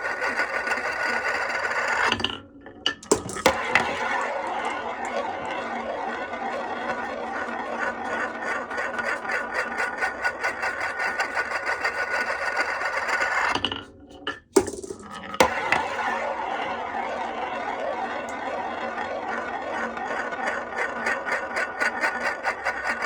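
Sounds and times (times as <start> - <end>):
marbles rolling on wooden run: 0.0 - 2.3, 2.9 - 13.6, 14.5 - 16.3, 19.0 - 23.0.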